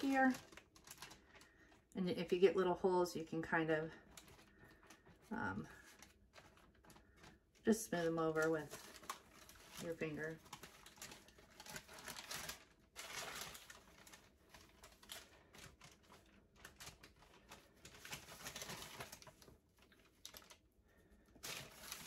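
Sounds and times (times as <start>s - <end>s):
parchment paper rustling: 0.0s - 22.0s.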